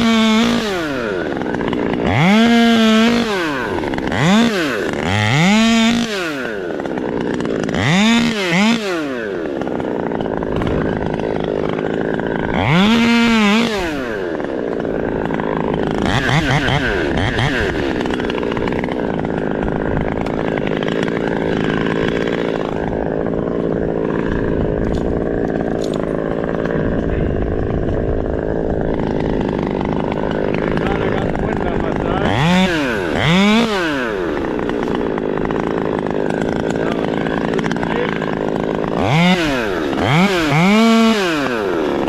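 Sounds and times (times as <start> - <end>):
chainsaw revving: 0.0 - 42.0.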